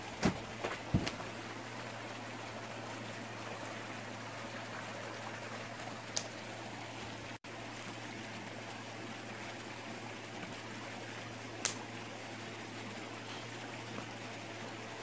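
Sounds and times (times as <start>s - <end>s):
stream trickling over rocks: 0.0s - 15.0s.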